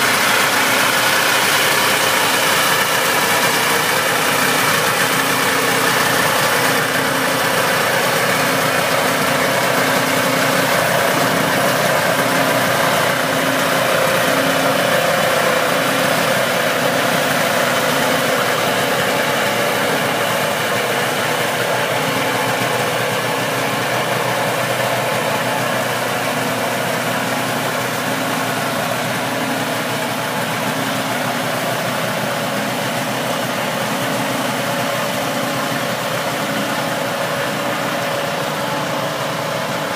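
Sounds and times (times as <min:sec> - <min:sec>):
snowmobile engine idling: 0:00.0 - 0:39.9.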